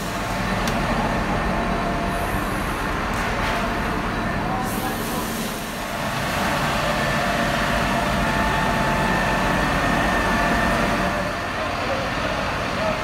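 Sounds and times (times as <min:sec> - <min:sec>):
fire engine drone: 0:00.0 - 0:13.0.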